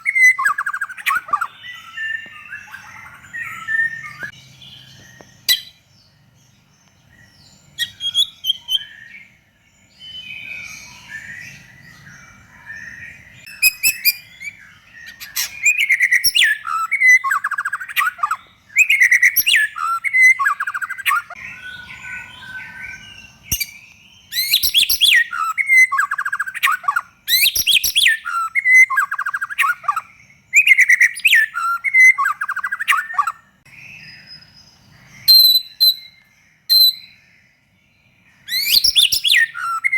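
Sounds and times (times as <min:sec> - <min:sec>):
songbird trilling and whistling: 0:00.0 - 0:05.9, 0:07.0 - 0:37.4, 0:38.4 - 0:39.9.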